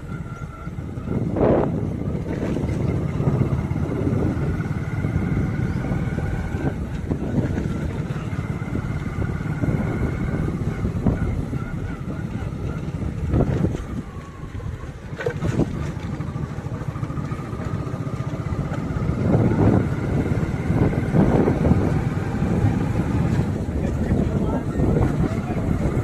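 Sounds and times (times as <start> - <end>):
vehicle engine running: 0.0 - 26.0
wind buffeting microphone: 0.0 - 26.0.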